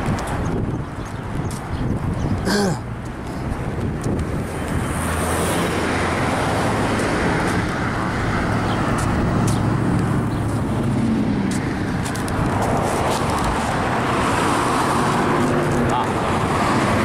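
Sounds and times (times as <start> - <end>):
road traffic: 0.0 - 17.0
low engine hum: 0.2 - 17.0.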